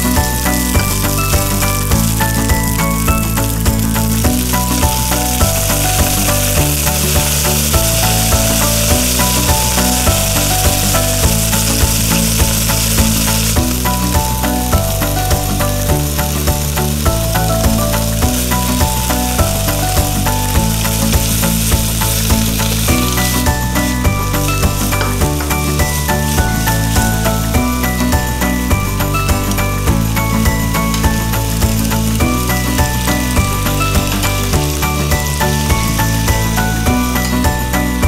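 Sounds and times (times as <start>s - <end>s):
background music with beat: 0.0s - 38.0s
stir-frying sizzle in a wok: 0.0s - 38.0s.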